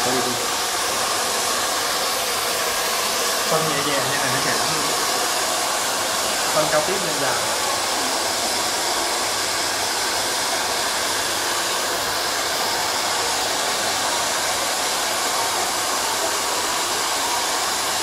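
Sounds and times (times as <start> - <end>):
hair dryers blowing: 0.0 - 18.0.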